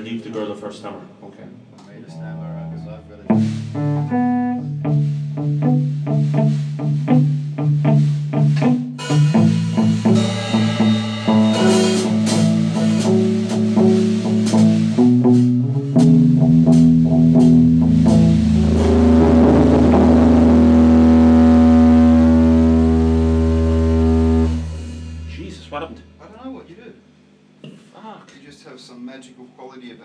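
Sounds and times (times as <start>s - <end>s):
steady low feedback hum: 0.0s - 30.0s
blues guitar and bass: 2.1s - 26.6s.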